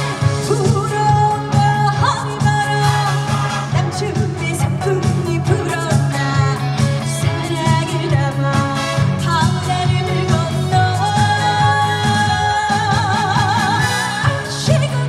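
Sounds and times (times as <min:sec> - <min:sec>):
band backing track with bass beat: 0:00.0 - 0:15.0
woman singing: 0:00.0 - 0:15.0.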